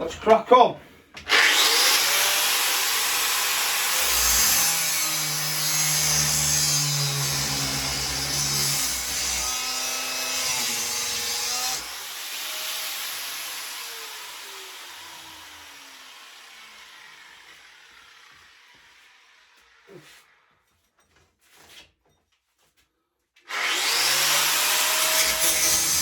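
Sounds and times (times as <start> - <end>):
power tool grinding: 1.2 - 20.5, 23.5 - 26.0.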